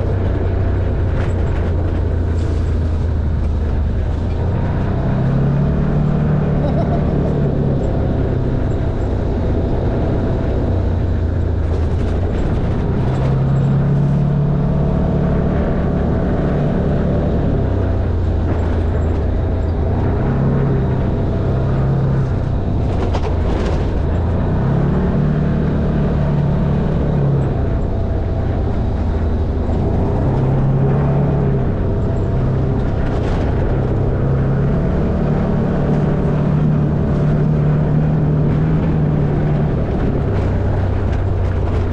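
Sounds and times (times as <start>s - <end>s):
knocks and rattles: 0.0s - 5.5s, 6.5s - 14.4s, 17.6s - 41.9s
off-road vehicle engine: 0.0s - 41.9s.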